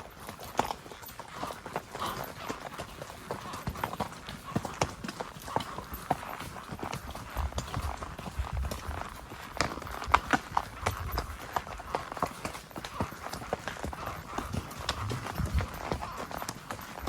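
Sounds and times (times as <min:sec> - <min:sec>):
horse hooves clip-clopping: 0:00.0 - 0:17.0.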